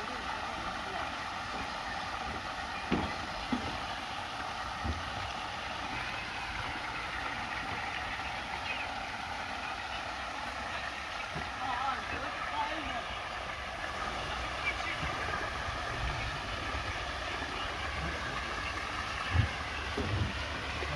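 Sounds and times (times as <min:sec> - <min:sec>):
water park background noise: 0:00.0 - 0:20.9.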